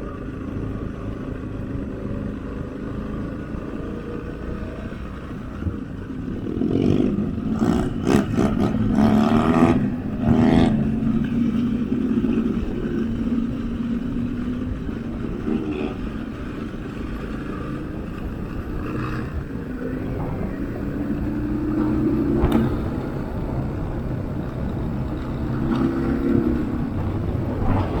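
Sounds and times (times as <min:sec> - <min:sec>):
motorcycle engine revving: 0:00.2 - 0:28.0.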